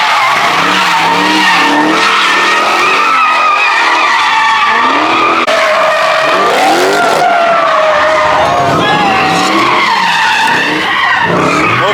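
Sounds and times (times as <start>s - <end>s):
car engine revving: 0.0s - 11.9s
tyres squealing: 0.0s - 11.9s.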